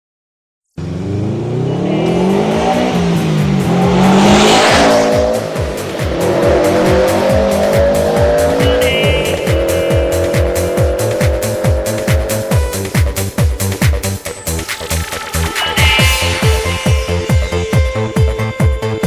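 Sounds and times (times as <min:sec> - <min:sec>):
car engine revving: 0:00.8 - 0:18.5
electronic dance beat: 0:01.7 - 0:19.0.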